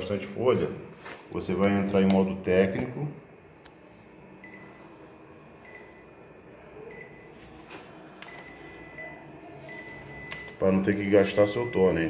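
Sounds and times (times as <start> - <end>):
faint machine hum: 0.0 - 12.0.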